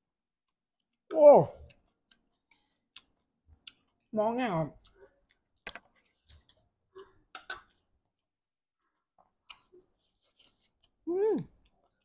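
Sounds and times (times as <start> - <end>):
person chewing food: 1.6 - 4.1, 4.8 - 12.0.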